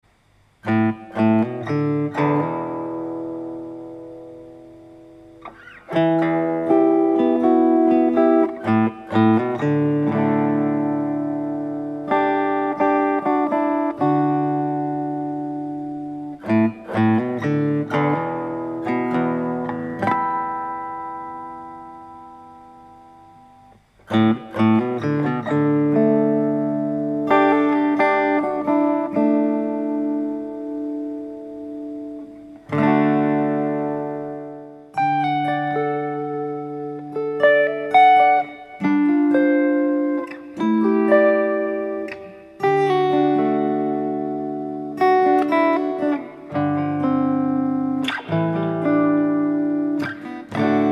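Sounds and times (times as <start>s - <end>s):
solo guitar playing: 0.0s - 50.9s.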